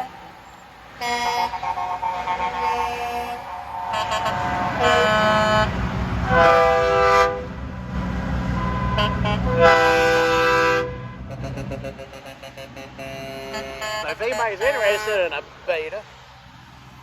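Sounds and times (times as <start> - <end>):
vehicle horns honking: 0.0 - 0.2, 1.0 - 7.6, 8.5 - 15.5
low engine rumble: 0.0 - 17.0.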